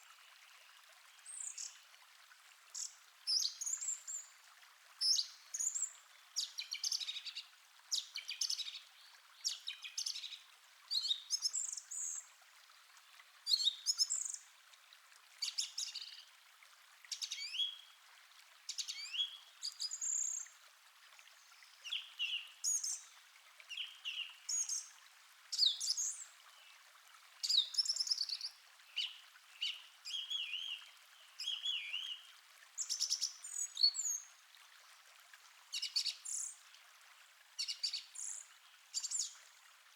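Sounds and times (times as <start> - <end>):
stream hiss: 0.0 - 39.9.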